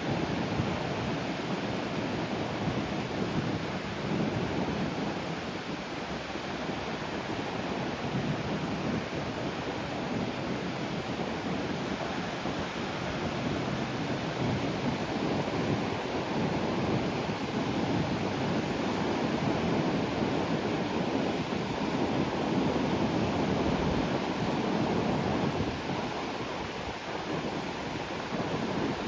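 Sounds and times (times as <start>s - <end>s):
sea waves breaking on shore: 0.0s - 29.0s.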